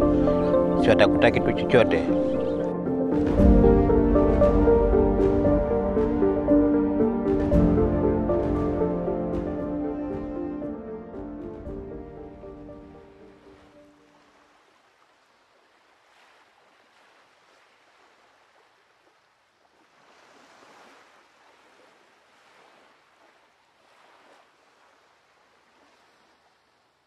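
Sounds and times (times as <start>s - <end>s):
faint sea waves washing in: 0.0s - 27.0s.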